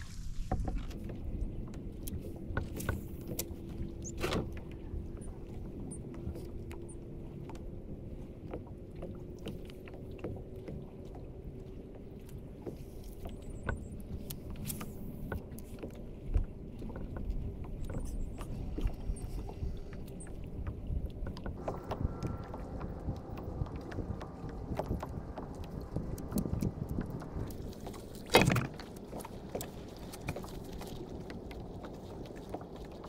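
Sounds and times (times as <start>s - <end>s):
water lapping against kayak hull: 0.0s - 33.0s.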